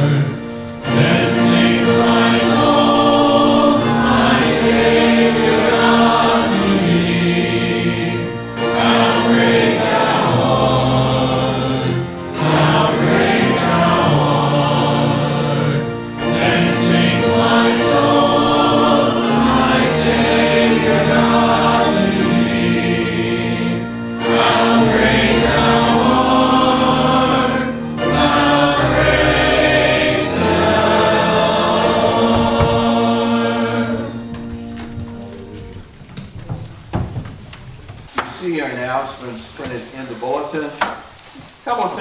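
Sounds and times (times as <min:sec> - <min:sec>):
group singing a hymn: 0:00.0 - 0:37.4
instrumental accompaniment: 0:00.0 - 0:38.1.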